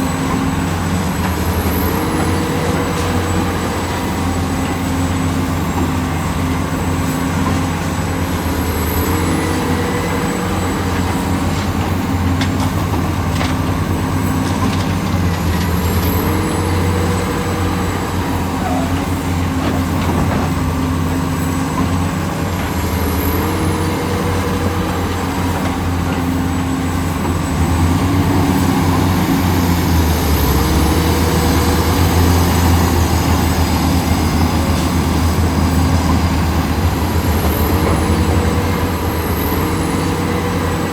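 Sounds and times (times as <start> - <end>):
excavator diesel engine working: 0.0 - 40.9.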